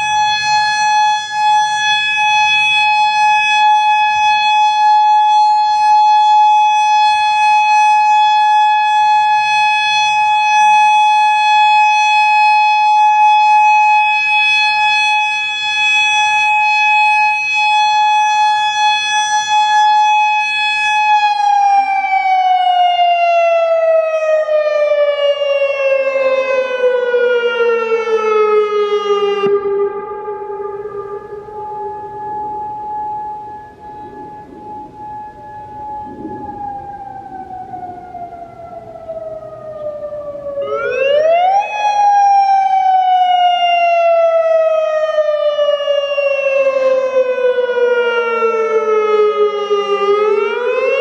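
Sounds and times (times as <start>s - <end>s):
electronic warning siren: 0.0s - 51.0s.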